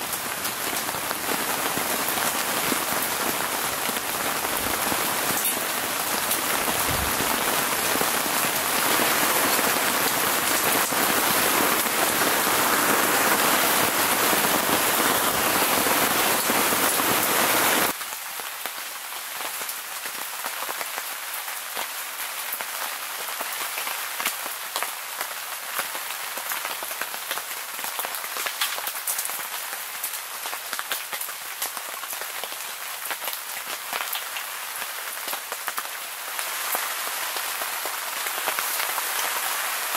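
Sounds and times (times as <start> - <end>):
heavy rain on wooden deck: 0.0 - 39.9
rain pattering on a tent: 0.0 - 39.9.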